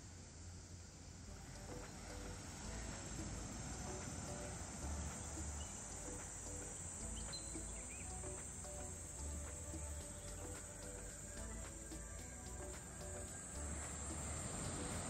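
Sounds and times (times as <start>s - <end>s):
soft background music: 1.1s - 15.0s
high-pitched insect chirring: 1.3s - 15.0s.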